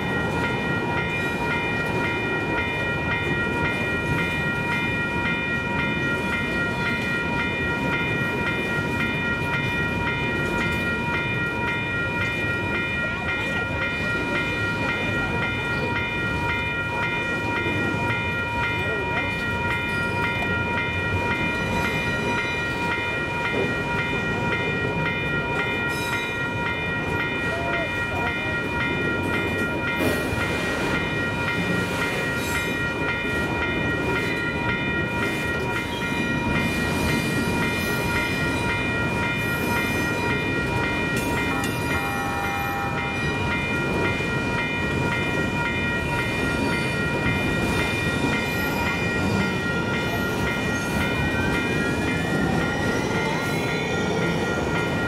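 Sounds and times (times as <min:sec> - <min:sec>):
train high whine: 0:00.0 - 0:55.0
train low rumble: 0:00.0 - 0:55.0.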